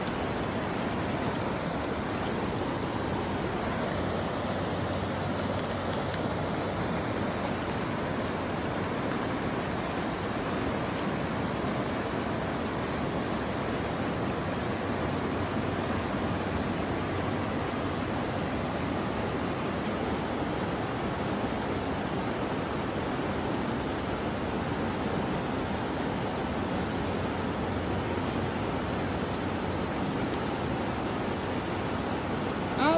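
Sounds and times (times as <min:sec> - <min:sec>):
river water rushing: 0:00.0 - 0:32.9.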